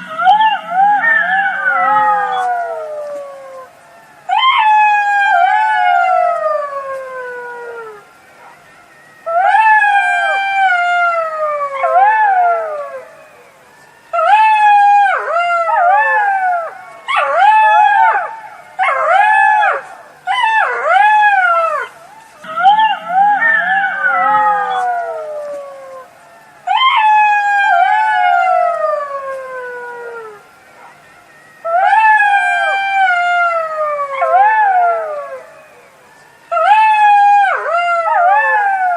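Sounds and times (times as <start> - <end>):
jackals howling and yipping: 0.0 - 38.9.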